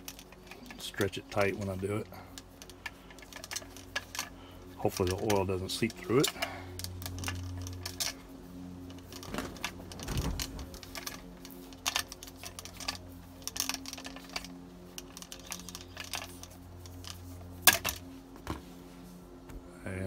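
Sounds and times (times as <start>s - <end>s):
tape crackling: 0.0s - 18.6s
steady low hum: 0.0s - 20.0s.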